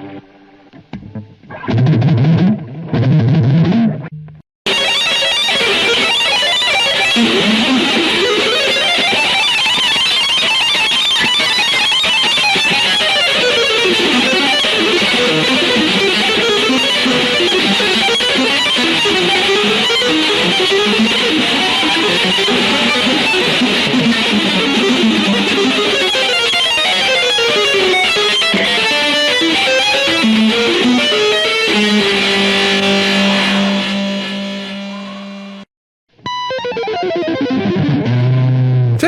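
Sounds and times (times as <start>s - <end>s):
electric guitar runs: 4.7s - 39.0s.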